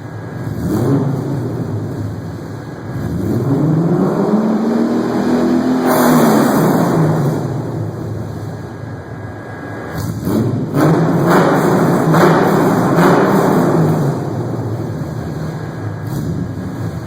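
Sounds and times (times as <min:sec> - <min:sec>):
car engine revving: 0:00.2 - 0:17.0.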